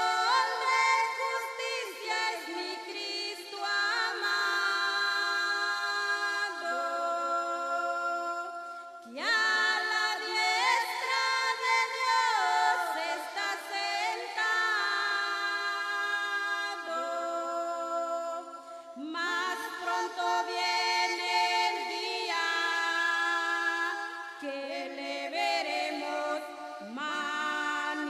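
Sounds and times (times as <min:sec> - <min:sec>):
women singing a hymn a cappella: 0:00.0 - 0:28.0.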